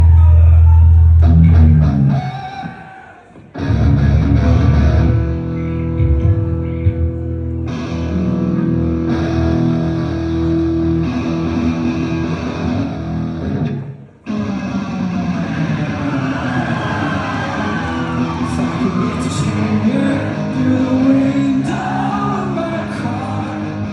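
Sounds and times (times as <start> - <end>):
rock band playing live: 3.5 - 23.9.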